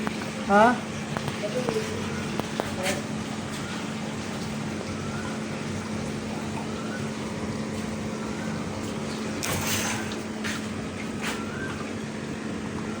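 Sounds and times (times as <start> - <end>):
glasswasher humming: 0.0 - 13.0.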